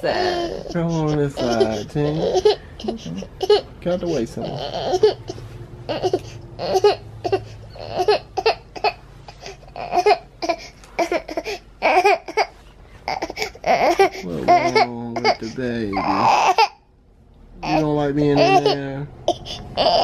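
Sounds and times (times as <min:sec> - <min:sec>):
baby fussing: 0:00.0 - 0:16.8, 0:17.6 - 0:20.0
low steady hum: 0:00.0 - 0:20.0.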